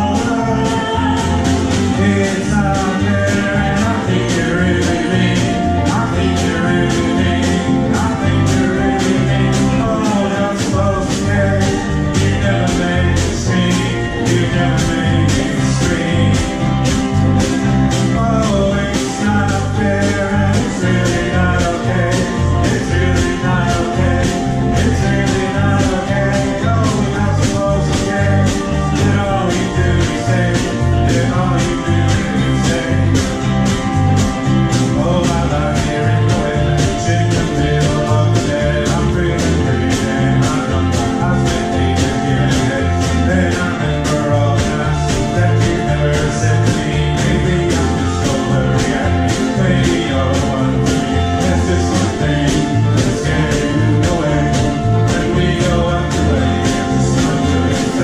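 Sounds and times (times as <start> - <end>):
bass guitar: 0.0 - 58.0
person singing: 0.0 - 58.0
strummed ukuleles: 0.0 - 58.0.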